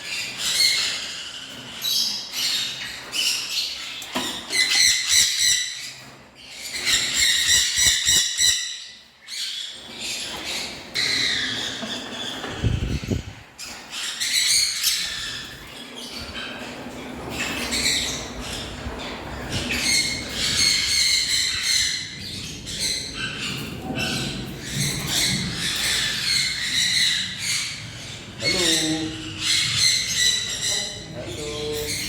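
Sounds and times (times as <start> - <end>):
caged birds chirping and squawking: 0.0 - 32.0.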